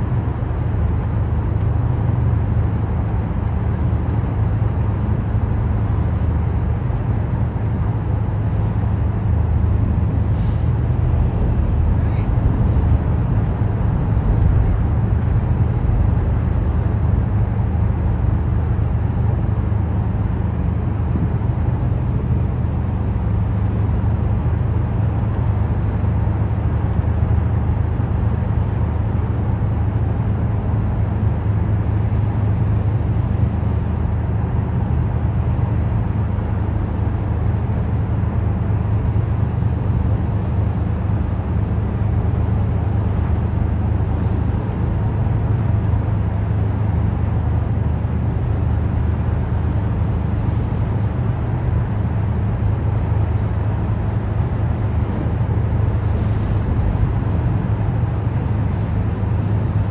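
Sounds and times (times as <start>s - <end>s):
city traffic rumble: 0.0s - 59.9s.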